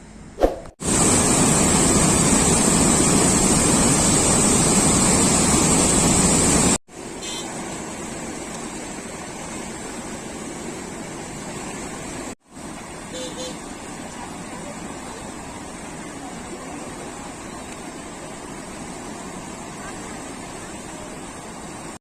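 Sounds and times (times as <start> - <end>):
distant rush of water: 0.8 - 22.0
heavy rushing water: 0.8 - 22.0.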